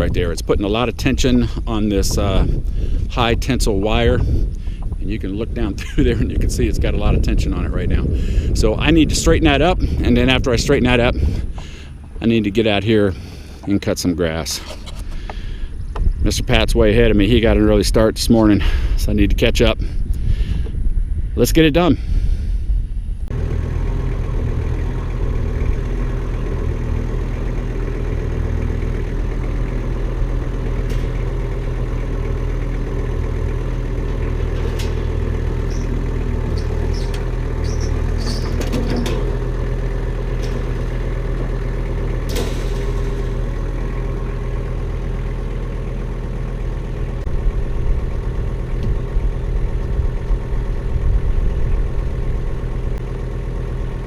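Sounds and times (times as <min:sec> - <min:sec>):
machinery clanks and rattles: 0:00.0 - 0:17.6, 0:23.2 - 0:54.0
diesel engine running: 0:00.0 - 0:54.0.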